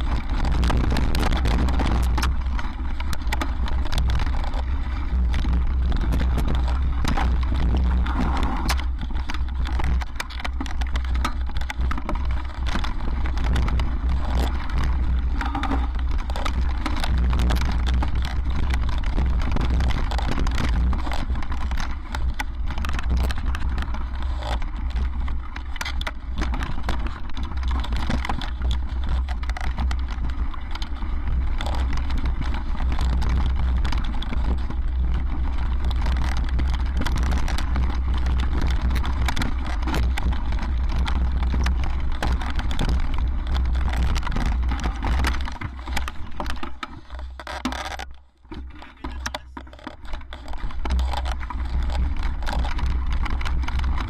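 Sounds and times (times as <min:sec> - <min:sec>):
wind buffeting microphone: 0:00.0 - 0:46.7
bike rattling over bumps: 0:00.0 - 0:54.0
tyres crunching over stones: 0:00.0 - 0:54.0.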